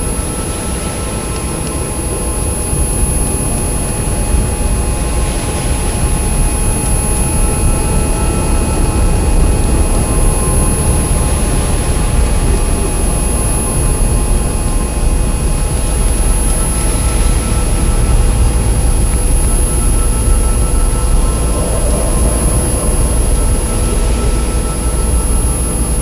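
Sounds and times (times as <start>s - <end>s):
dense electronic drone rumble: 0.0s - 26.0s
high whine: 0.0s - 26.0s
thin steady tones: 0.0s - 26.0s.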